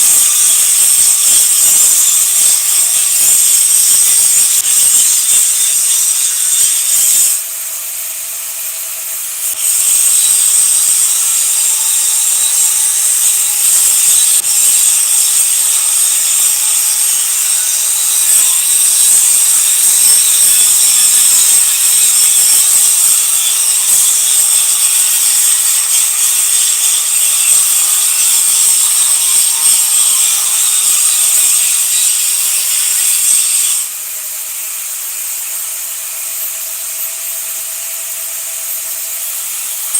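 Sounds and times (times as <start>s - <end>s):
welding arc crackling and hissing: 0.0s - 39.9s.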